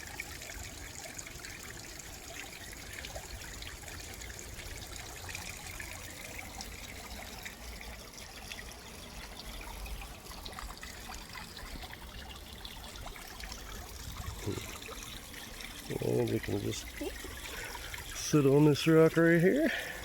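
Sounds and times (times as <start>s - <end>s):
water trickling into pond: 0.0s - 20.0s.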